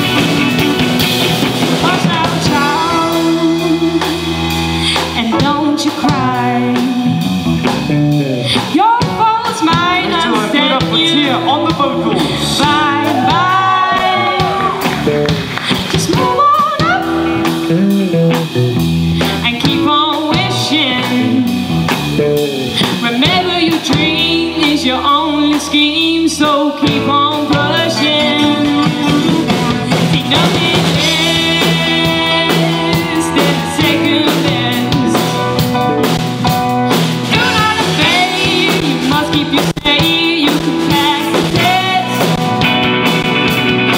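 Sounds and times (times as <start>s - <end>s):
woman singing lead: 0.0s - 7.5s, 8.1s - 18.0s, 19.2s - 43.6s
drum kit: 0.0s - 43.9s
electric guitars: 0.0s - 43.9s
keyboard: 0.0s - 43.9s.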